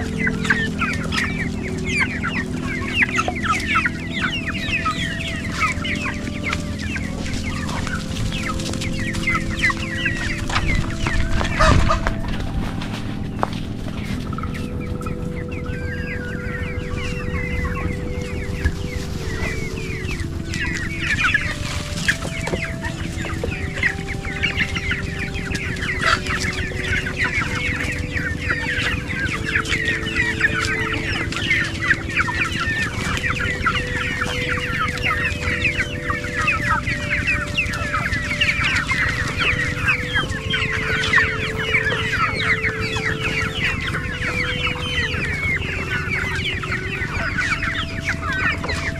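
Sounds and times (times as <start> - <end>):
young chickens clucking and cheeping: 0.0 - 48.9.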